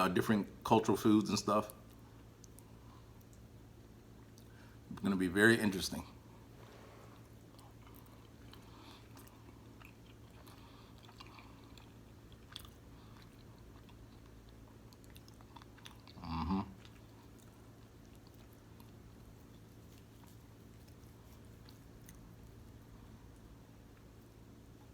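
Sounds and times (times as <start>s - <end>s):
soft wet chewing: 1.6s - 4.9s, 6.2s - 24.9s.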